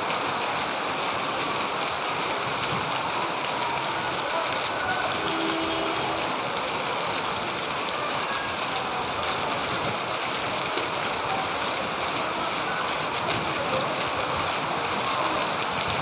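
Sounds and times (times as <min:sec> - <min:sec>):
heavy rain on roofs: 0:00.0 - 0:16.0.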